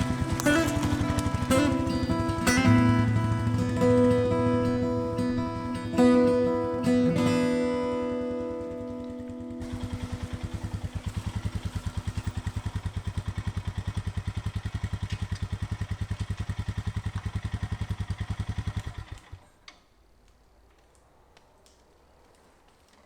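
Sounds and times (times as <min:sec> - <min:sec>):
engine idling: 0:00.0 - 0:19.6.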